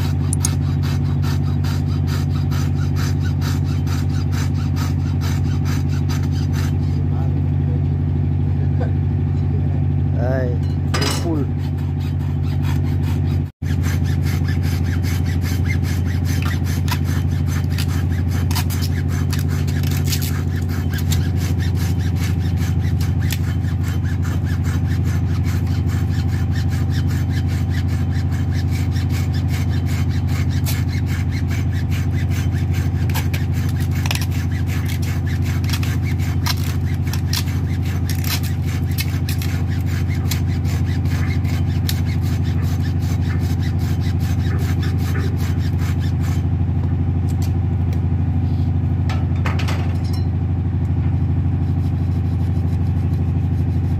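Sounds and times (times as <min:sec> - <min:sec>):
hacksaw cutting rope: 0:00.0 - 0:07.4, 0:10.9 - 0:48.1, 0:49.1 - 0:50.3, 0:50.9 - 0:53.9
low machine drone: 0:00.0 - 0:53.9.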